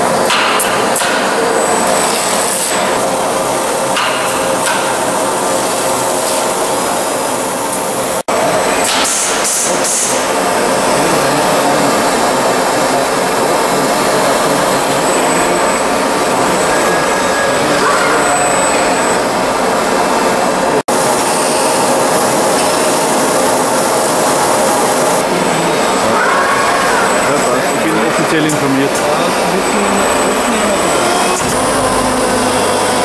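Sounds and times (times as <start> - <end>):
machinery whirring and hissing: 0.0 - 33.0.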